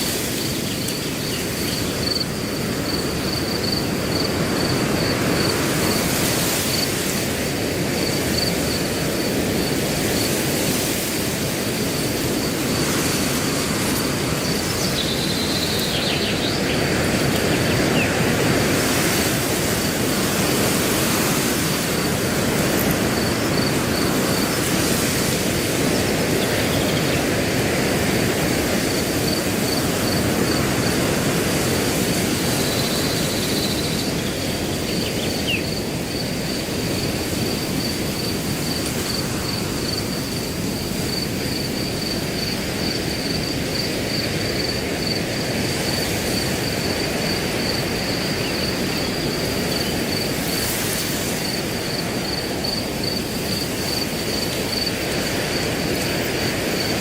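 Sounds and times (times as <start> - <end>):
crickets chirping: 0.0 - 57.0
wind through grass: 0.0 - 57.0.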